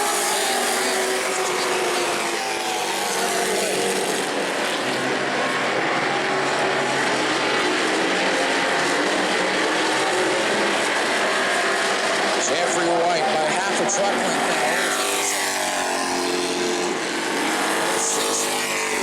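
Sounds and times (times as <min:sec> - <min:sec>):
racing truck engines droning: 0:00.0 - 0:19.0.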